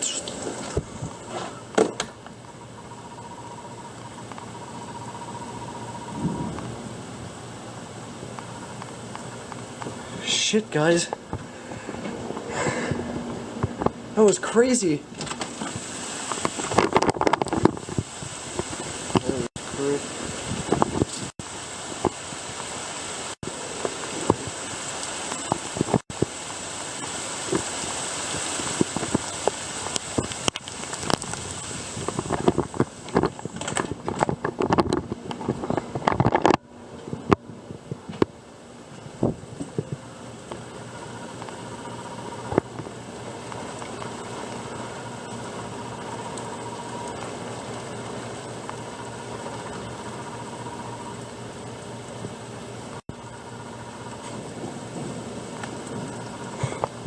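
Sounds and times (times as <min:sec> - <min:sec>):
raindrops ticking close by: 0:02.2 - 0:11.5, 0:15.4 - 0:57.0
heavy rain falling: 0:03.7 - 0:14.6, 0:15.2 - 0:57.0.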